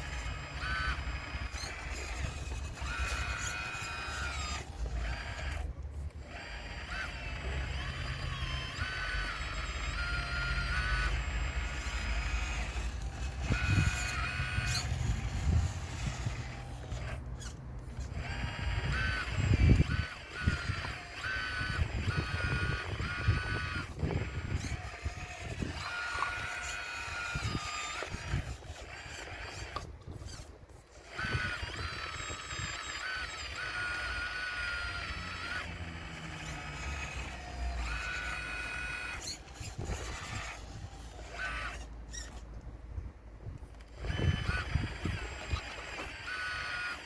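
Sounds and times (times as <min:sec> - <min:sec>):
model excavator motor whine: 0:00.0 - 0:47.0.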